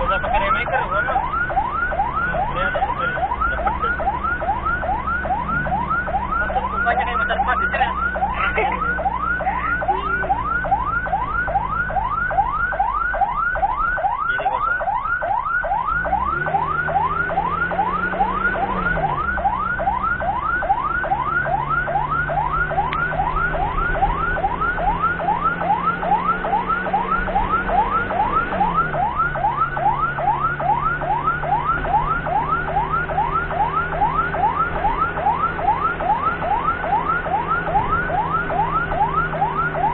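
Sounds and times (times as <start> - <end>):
ambulance siren yelping: 0.0 - 39.9
engine revving: 0.0 - 39.9.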